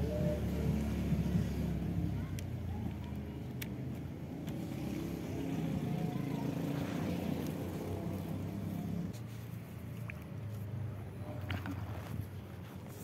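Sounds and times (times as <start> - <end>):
engine running rumble: 0.0 - 13.0.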